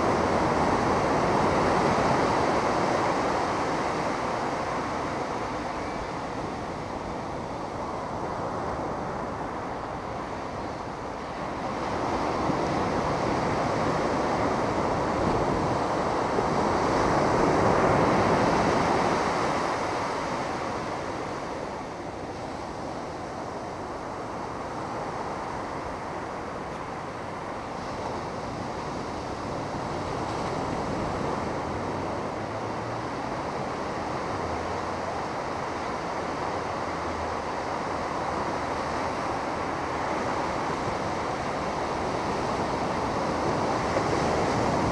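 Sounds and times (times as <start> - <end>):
ocean surf washing onto beach: 0.0 - 44.9.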